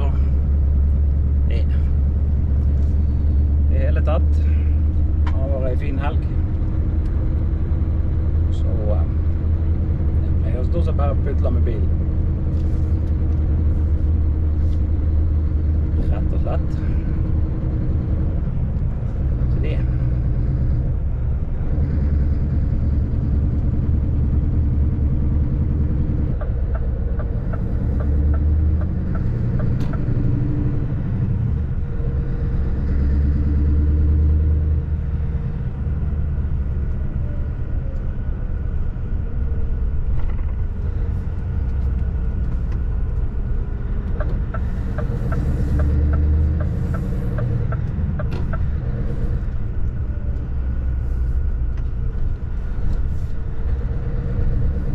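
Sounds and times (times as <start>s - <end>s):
diesel truck engine droning: 0.0s - 54.9s.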